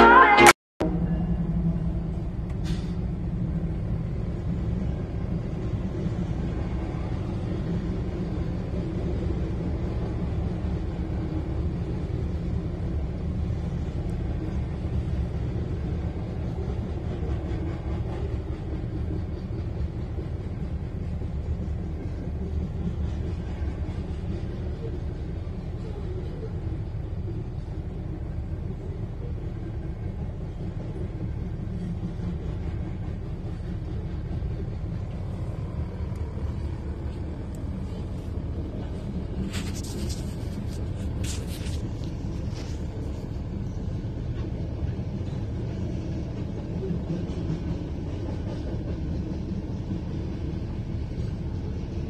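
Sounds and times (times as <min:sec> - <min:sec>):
train wheels rumbling on rails: 0:00.8 - 0:52.0.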